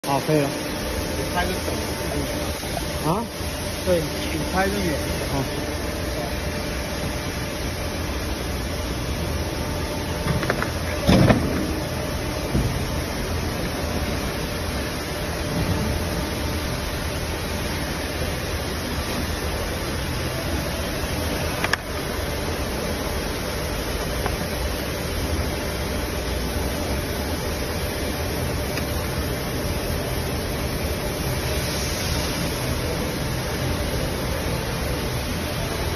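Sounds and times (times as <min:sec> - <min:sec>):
pump motor humming and hissing: 0:00.0 - 0:35.9.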